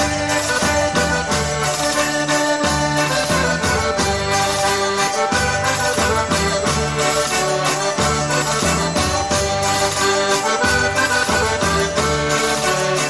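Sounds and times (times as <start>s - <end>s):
folk dance music: 0.0s - 13.0s.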